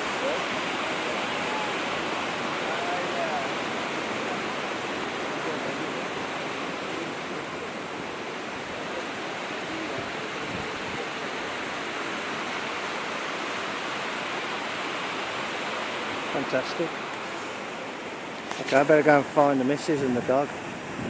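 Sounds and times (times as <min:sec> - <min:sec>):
stream rushing over rocky cascades: 0:00.0 - 0:21.0.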